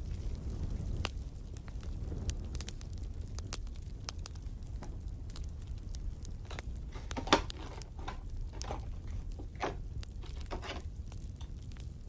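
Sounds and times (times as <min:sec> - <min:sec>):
low fire rumble: 0:00.0 - 0:12.0
wood fire crackling: 0:00.0 - 0:12.0.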